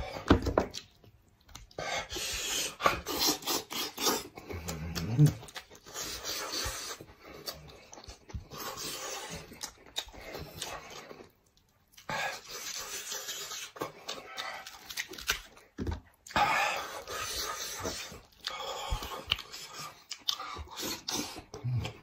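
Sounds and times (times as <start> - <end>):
chewing and lip-smacking: 0.5 - 22.0.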